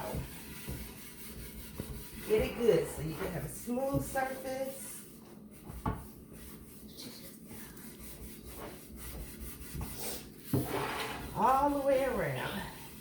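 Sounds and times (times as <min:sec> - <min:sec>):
steel wool scrubbing cast iron pan: 0:00.0 - 0:13.0.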